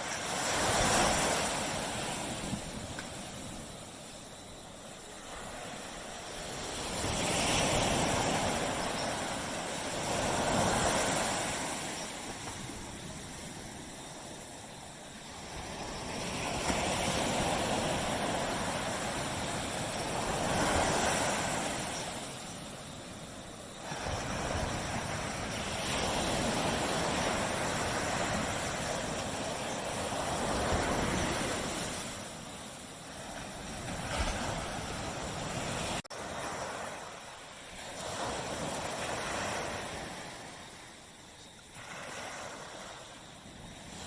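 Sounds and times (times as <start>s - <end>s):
sea waves breaking on beach: 0.0s - 44.0s.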